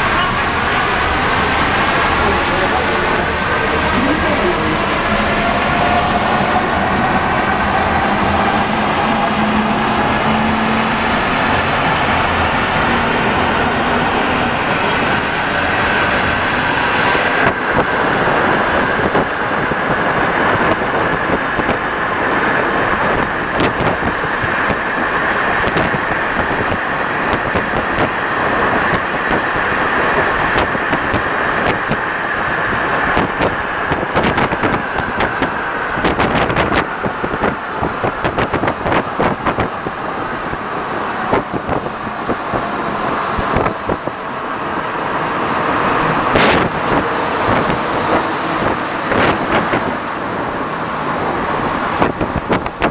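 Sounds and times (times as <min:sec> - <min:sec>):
metro train rolling noise: 0:00.0 - 0:52.9.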